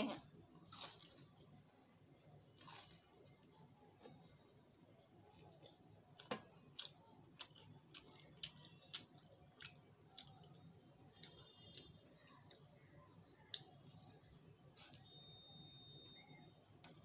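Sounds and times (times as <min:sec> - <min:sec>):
person chewing food: 0:00.5 - 0:04.3, 0:05.0 - 0:15.5.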